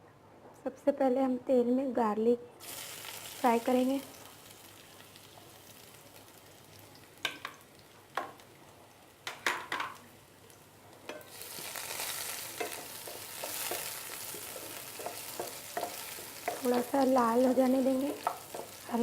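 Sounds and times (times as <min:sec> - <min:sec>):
garlic sizzling in oil: 0:02.6 - 0:19.0.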